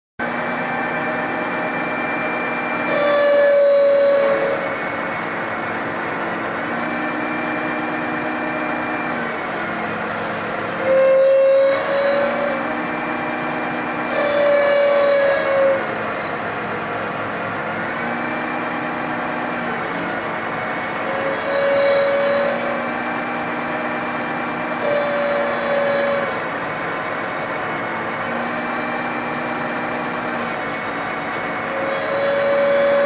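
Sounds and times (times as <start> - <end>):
lathe humming: 0.2 - 33.0
cutting tool screeching on steel: 1.5 - 17.3, 19.8 - 27.5, 29.9 - 33.0.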